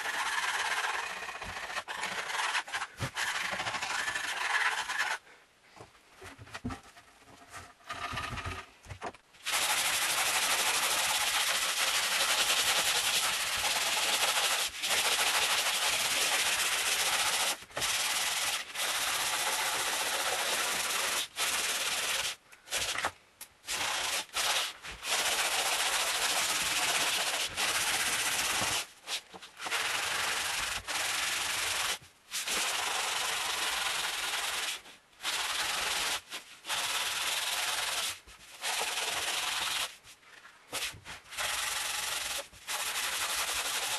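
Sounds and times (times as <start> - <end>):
sandpaper sanding wood: 0.0 - 5.2, 9.4 - 23.1, 23.7 - 40.1, 40.7 - 43.9.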